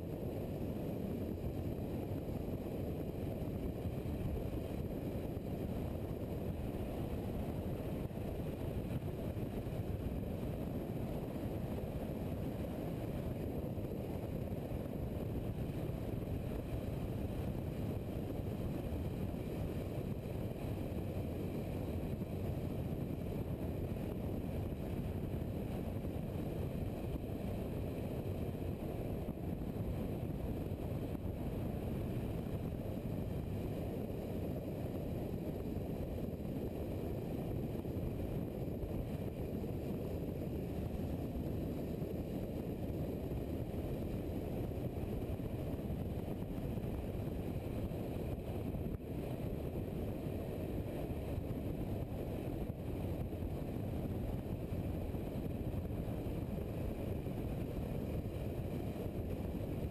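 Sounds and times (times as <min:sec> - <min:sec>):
wind noise: 0:00.0 - 0:59.9.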